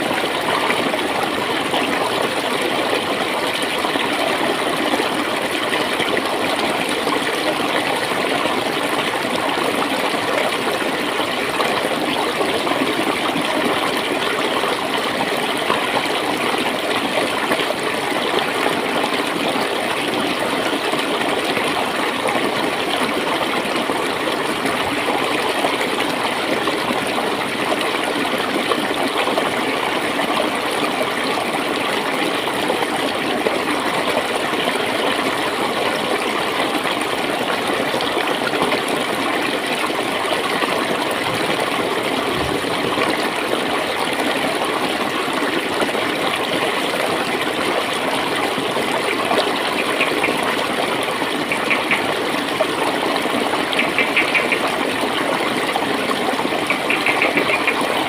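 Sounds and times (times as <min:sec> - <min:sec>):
shallow water flowing and gurgling: 0:00.0 - 0:58.0.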